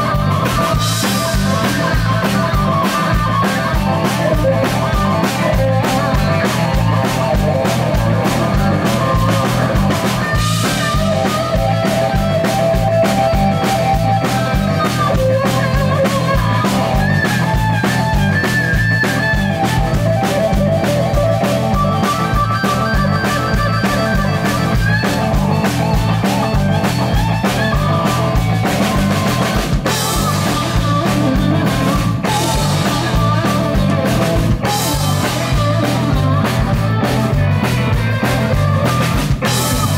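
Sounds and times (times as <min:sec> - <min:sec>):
bass guitar: 0:00.0 - 0:39.9
drum kit: 0:00.0 - 0:39.9
lead electric guitar: 0:00.0 - 0:39.9.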